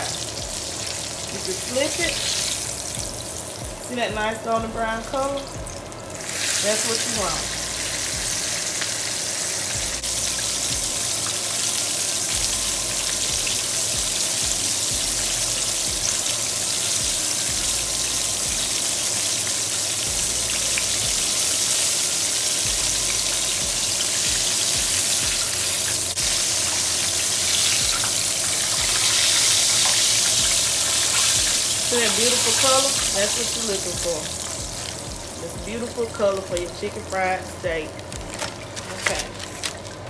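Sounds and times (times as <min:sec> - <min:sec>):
steak deep-frying in oil: 0:00.0 - 0:40.0.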